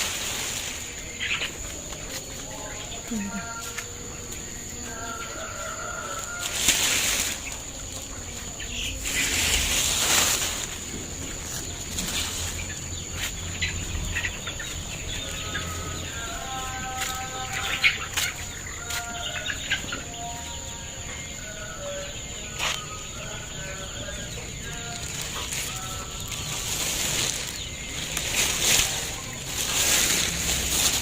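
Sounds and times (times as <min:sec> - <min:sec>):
young chickens clucking: 0:00.0 - 0:31.0.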